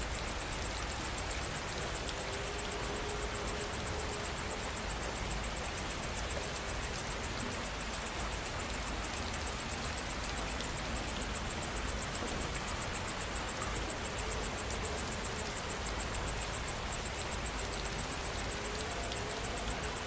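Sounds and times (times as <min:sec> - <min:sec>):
insect pulsing call: 0:00.0 - 0:20.0
steady rain hissing: 0:00.0 - 0:20.0.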